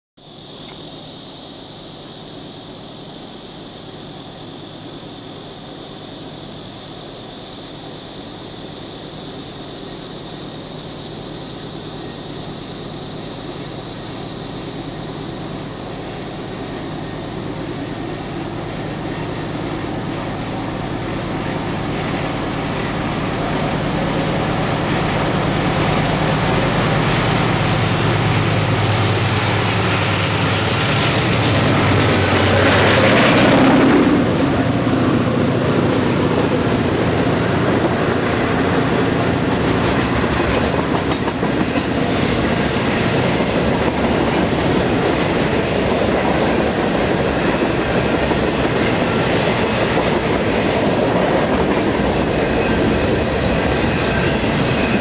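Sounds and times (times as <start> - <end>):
high steady shrill sound: 0.2 - 55.0
diesel locomotive engine rumble: 3.2 - 55.0.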